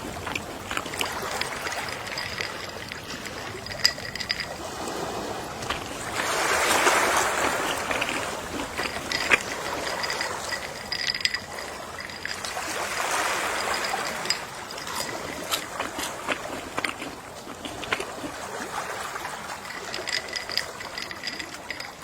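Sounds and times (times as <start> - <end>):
small clicks and ticks: 0.0 - 5.0, 5.6 - 12.6, 13.4 - 18.2, 19.6 - 22.0
gentle sea waves washing in: 0.0 - 22.0.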